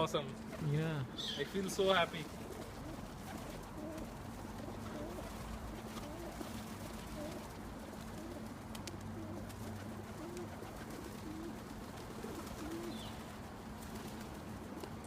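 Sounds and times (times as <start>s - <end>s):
pigeons cooing: 0.4s - 15.0s.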